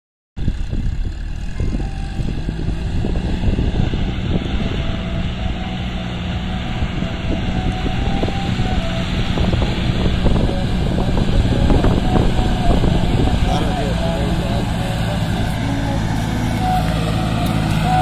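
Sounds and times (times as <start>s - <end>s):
tractor diesel engine under load: 0.4s - 18.0s.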